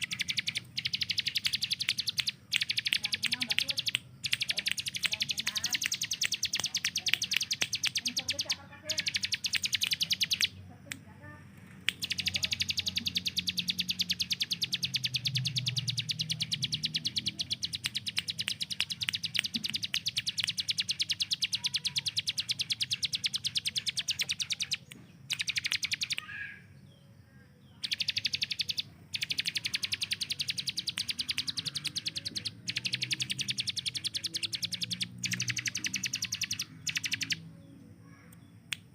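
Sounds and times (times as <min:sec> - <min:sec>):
bird rapid repeated call: 0:00.0 - 0:10.6, 0:11.9 - 0:26.7, 0:27.7 - 0:38.9.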